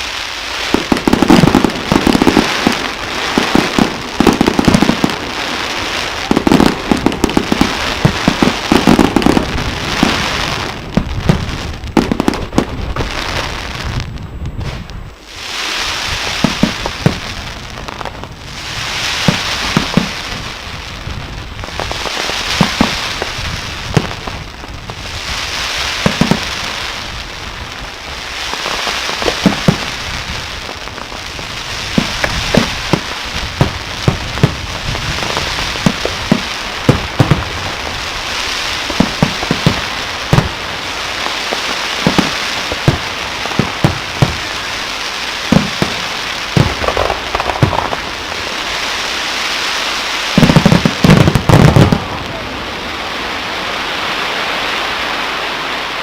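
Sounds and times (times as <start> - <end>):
fireworks shells exploding: 0.0 - 52.4
fireworks crackling hiss: 0.0 - 56.0.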